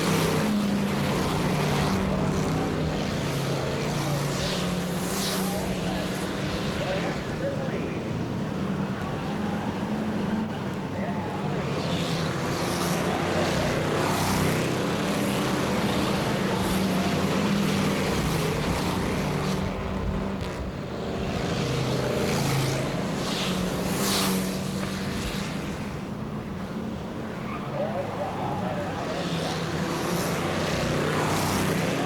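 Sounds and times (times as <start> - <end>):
stock car engines racing: 0.0 - 32.0.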